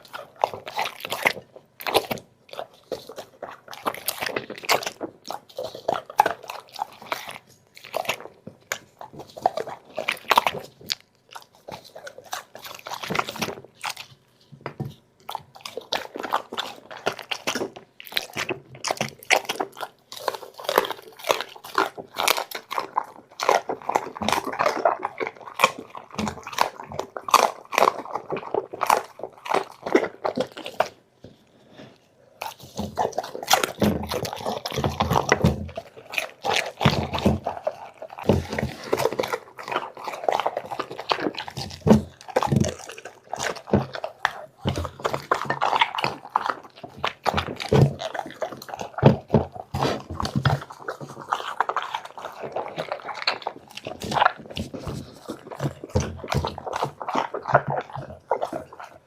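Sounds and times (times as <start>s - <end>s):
dog chewing and crunching food: 0.0s - 59.0s.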